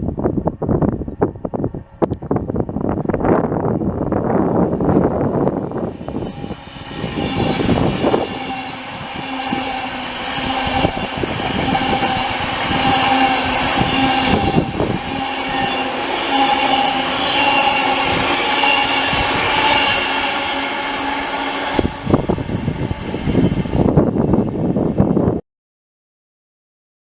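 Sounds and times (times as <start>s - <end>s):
electric train whine: 0.1s - 25.4s.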